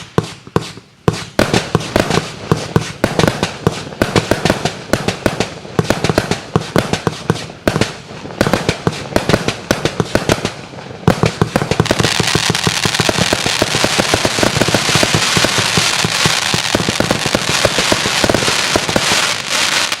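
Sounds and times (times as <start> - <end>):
firework cake bangs and crackle: 0.0 - 20.0.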